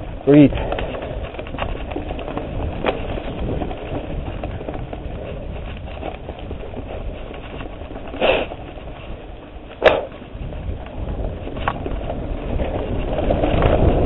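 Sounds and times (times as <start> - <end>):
bike rattling and clicking: 0.0 - 14.0
bike tyres on dirt trail: 0.0 - 14.0
wind rumbling on microphone: 0.0 - 14.0.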